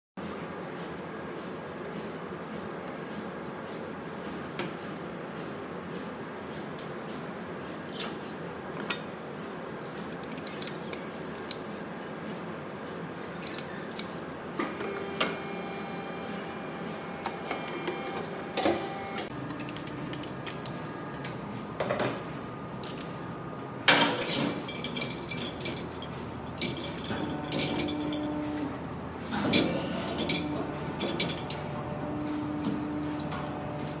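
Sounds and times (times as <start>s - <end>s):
workshop hum: 0.2s - 34.0s.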